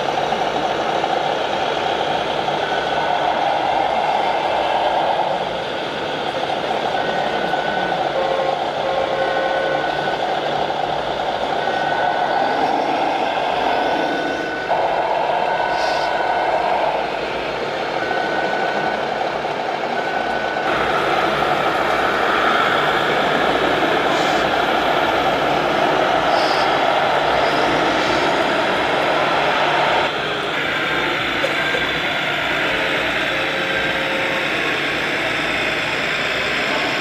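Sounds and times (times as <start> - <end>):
electronic engine drone: 0.0 - 37.0.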